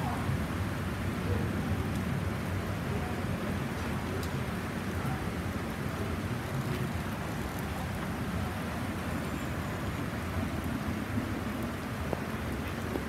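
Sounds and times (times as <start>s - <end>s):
heavy rain on wet asphalt: 0.0s - 13.0s.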